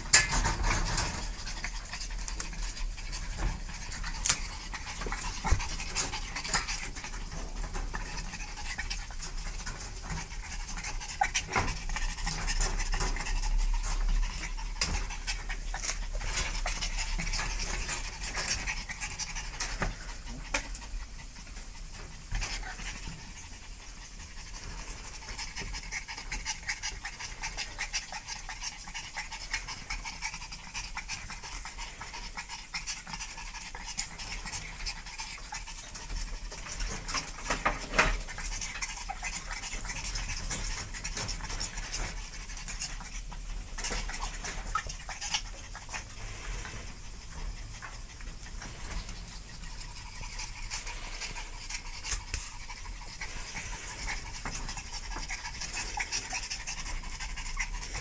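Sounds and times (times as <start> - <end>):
small dogs panting: 0.0 - 58.0.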